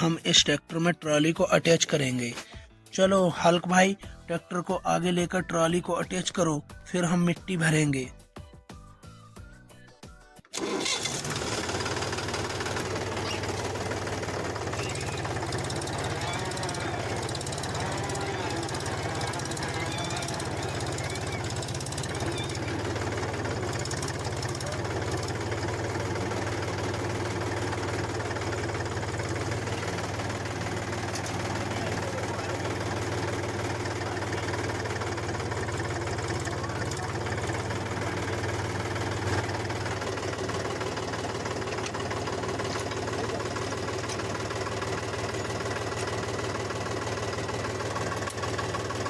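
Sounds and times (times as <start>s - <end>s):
tractor engine idling: 0.0s - 8.1s, 10.6s - 49.0s.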